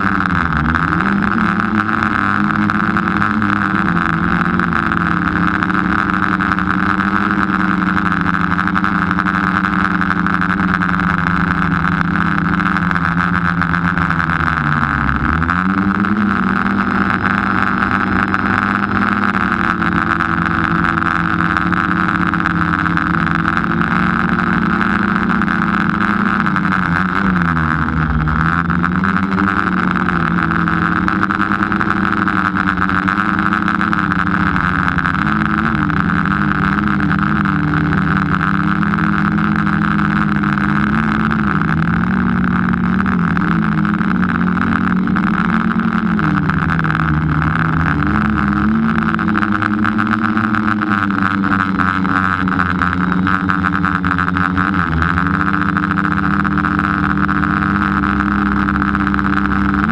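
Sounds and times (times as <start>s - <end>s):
small aircraft engine and propellers: 0.0s - 59.9s.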